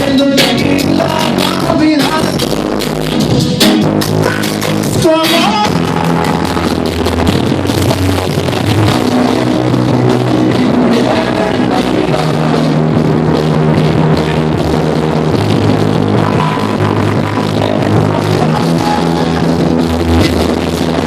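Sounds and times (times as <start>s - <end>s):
rock music over sound system: 0.0s - 21.0s.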